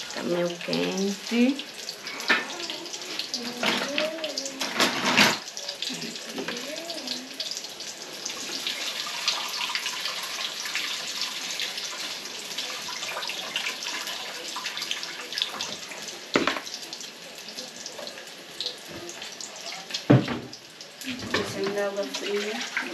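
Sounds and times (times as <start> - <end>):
water splashing over greens in colander: 0.0 - 16.8, 18.7 - 22.9.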